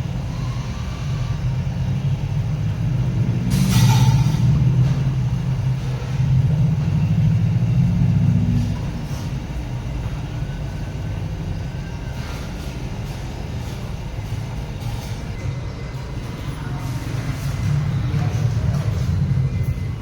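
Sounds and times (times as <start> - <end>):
washing machine rumbling: 0.0 - 20.0.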